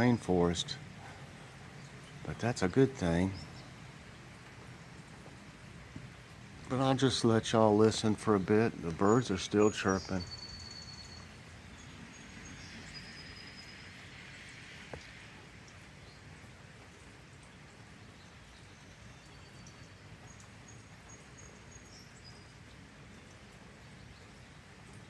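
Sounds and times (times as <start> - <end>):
light rain falling: 0.0 - 25.0
songbirds chirping: 0.0 - 25.0.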